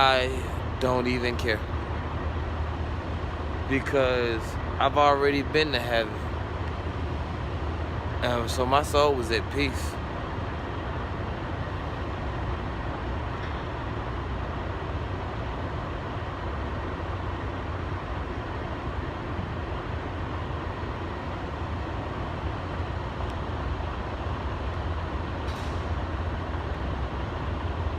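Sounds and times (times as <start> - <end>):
truck cab road and engine rumble: 0.0 - 27.9.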